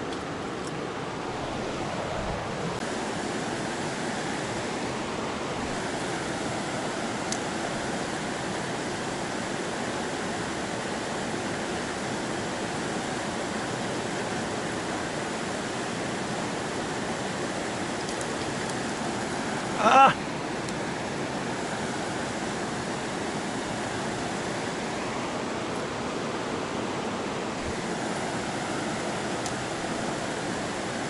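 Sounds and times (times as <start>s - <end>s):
river water rushing over rocks: 0.0s - 31.0s.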